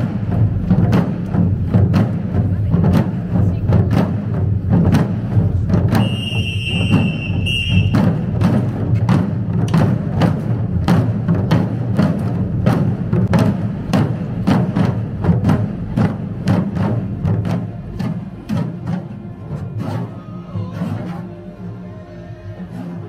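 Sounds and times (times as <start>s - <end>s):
drums beating steadily: 0.0s - 23.0s.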